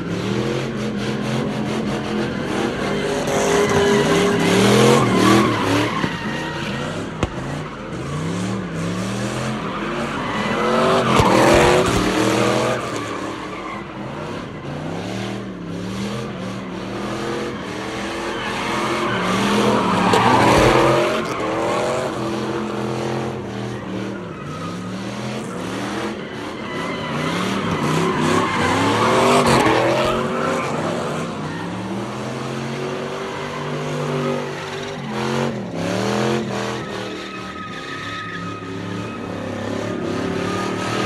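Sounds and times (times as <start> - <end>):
car engines revving: 0.0 - 41.0
tires squealing on pavement: 0.0 - 41.0.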